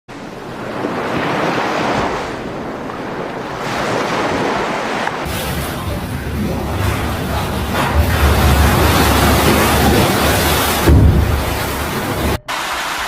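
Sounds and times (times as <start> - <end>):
floodwater rushing: 0.2 - 13.0.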